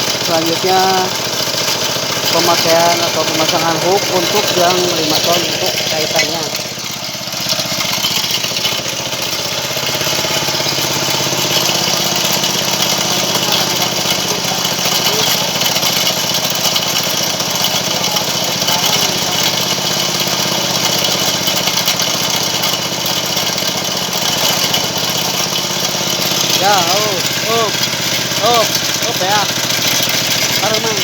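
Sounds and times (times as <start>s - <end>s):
winch engine running steadily: 0.0s - 31.0s.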